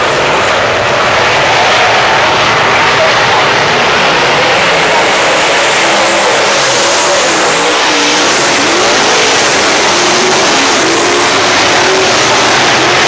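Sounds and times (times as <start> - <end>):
race car engines at racing speed: 0.0 - 13.0.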